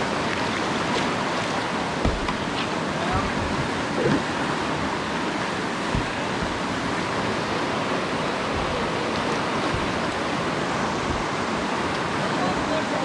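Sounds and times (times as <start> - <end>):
water moving around kayak: 0.0 - 13.0
whitewater rushing over rocks: 0.0 - 13.0.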